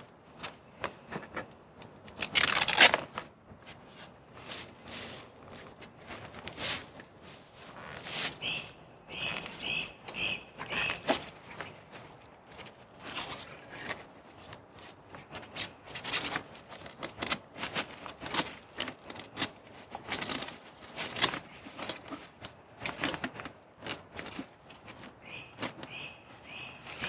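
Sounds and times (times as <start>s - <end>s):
luggage bag rustling and crinkling: 2.1s - 27.0s.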